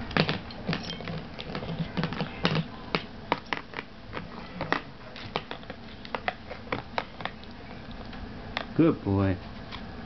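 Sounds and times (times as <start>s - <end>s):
puppy gnawing rawhide: 0.0s - 8.8s.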